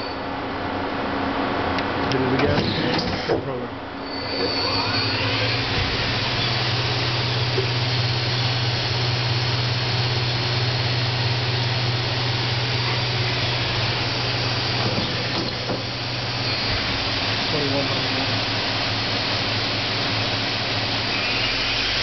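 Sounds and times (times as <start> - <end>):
lathe spindle humming and hissing: 4.2 - 22.0.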